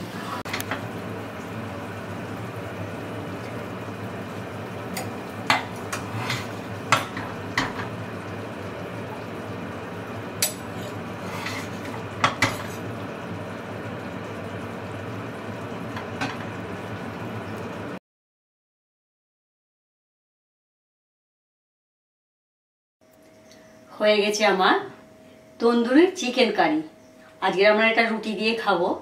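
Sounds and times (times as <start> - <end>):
low background hum: 0.0 - 18.0, 23.0 - 29.0.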